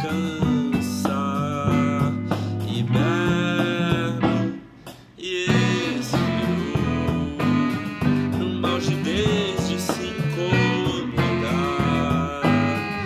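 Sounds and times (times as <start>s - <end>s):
electric bass: 0.0s - 13.0s
electric guitar: 0.0s - 13.0s
man singing: 0.0s - 13.0s.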